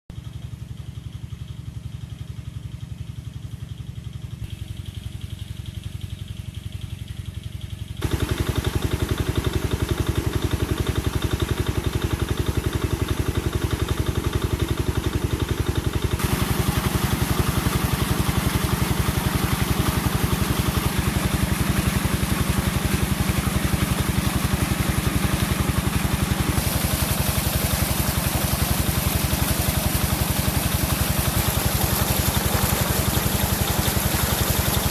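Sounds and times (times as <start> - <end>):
small engine running: 0.2 - 34.9.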